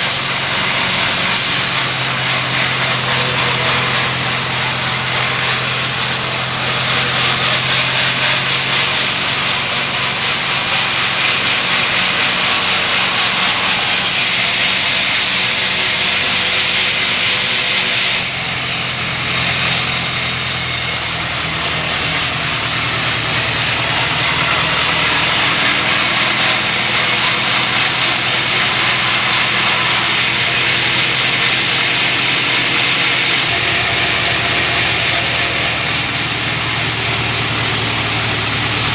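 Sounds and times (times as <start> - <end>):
bandsaw mill droning: 0.0 - 38.9
saw blade hissing through timber: 0.0 - 38.9.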